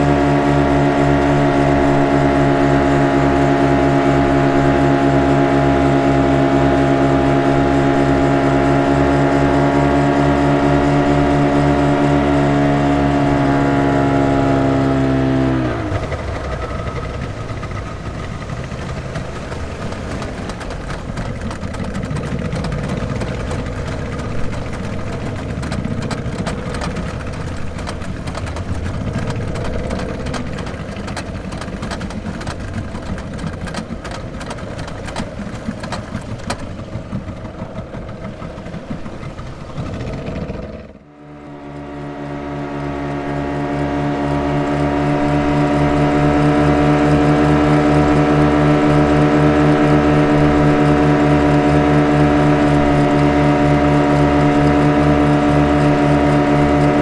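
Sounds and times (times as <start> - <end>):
motorboat engine running: 0.0 - 57.0
steady engine hum: 0.0 - 57.0.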